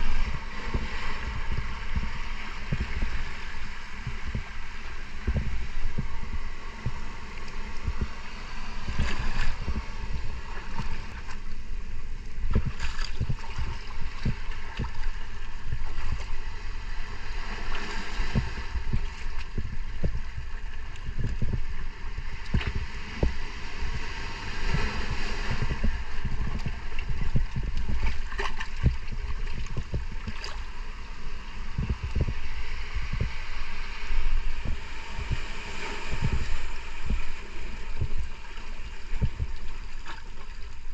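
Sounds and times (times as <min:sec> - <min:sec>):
low rumble: 0:00.0 - 0:40.9
seawater rushing and gurgling: 0:00.0 - 0:40.9.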